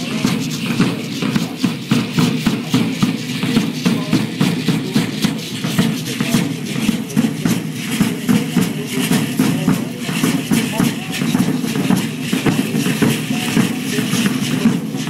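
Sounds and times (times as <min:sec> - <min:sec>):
dancers' rattles: 0:00.0 - 0:15.0
large drum steady beat: 0:00.0 - 0:15.0.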